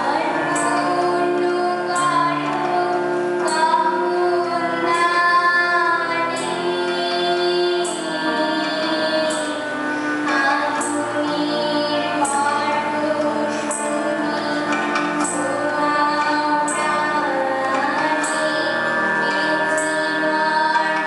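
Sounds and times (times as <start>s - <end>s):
girl singing into a microphone: 0.0s - 21.0s.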